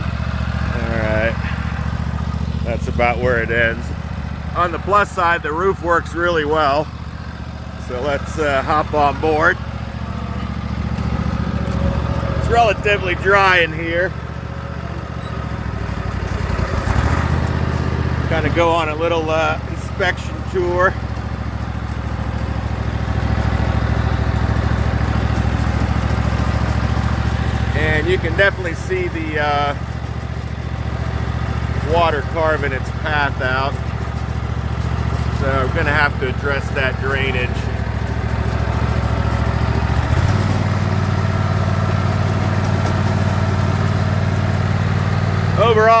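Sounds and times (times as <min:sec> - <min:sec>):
lawn tractor engine running: 0:00.0 - 0:46.0.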